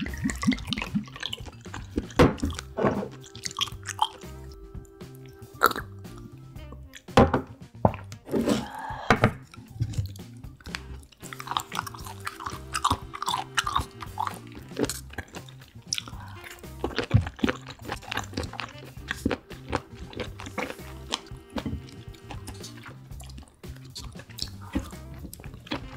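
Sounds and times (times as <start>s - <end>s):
crunchy chewing: 0.0s - 7.1s, 9.4s - 25.9s
soft background music: 0.0s - 25.9s.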